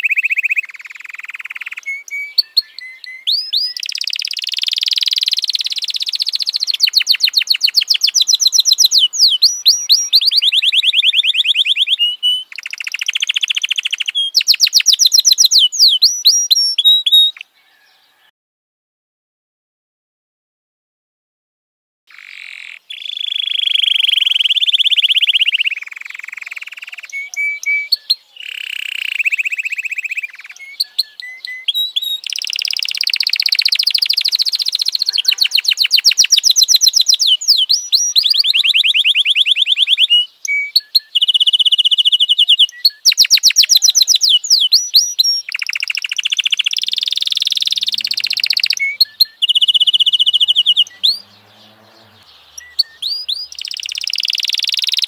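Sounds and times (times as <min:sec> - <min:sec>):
canary singing trills: 0:00.0 - 0:18.3, 0:22.1 - 0:55.0
short bird chirps: 0:00.0 - 0:18.3, 0:22.1 - 0:55.0.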